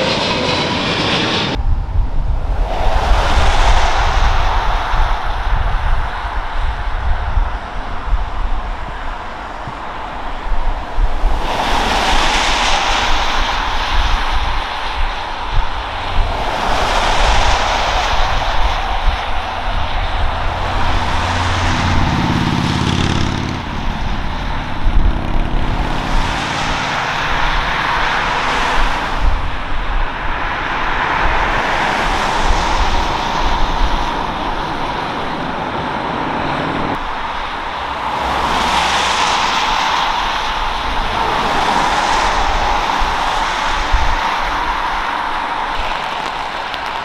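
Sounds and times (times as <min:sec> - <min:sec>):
jet engine roar: 0:00.0 - 0:47.0.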